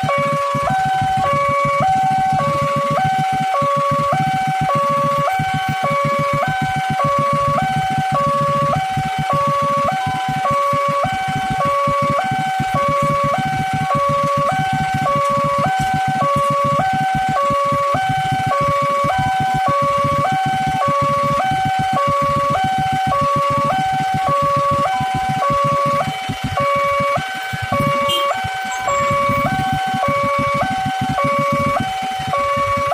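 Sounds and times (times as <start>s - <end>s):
level crossing two-tone alarm: 0.0s - 32.9s.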